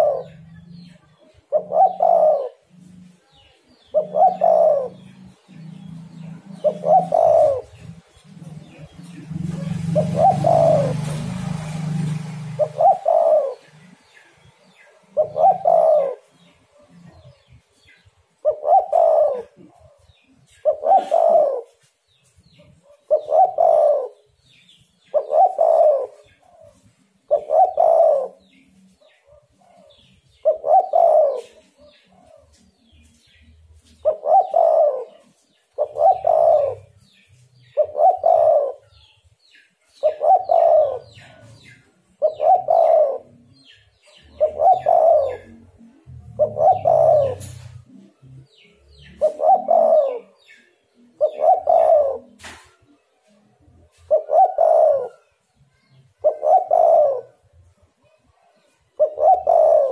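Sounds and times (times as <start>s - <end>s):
dove cooing: 0.0s - 39.2s, 39.8s - 52.7s, 53.8s - 59.9s.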